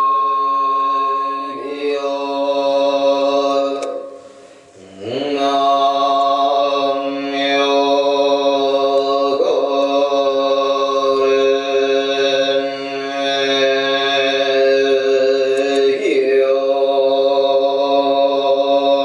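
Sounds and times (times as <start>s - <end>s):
low voice chanting: 0.0s - 19.0s.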